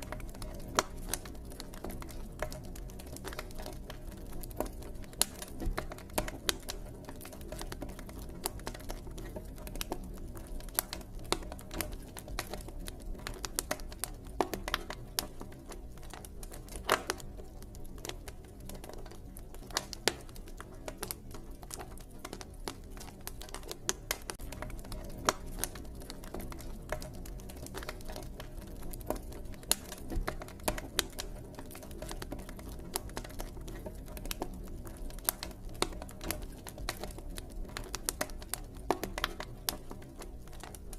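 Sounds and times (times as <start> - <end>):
campfire crackling: 0.0 - 40.9
low rumble of flames: 0.0 - 40.9.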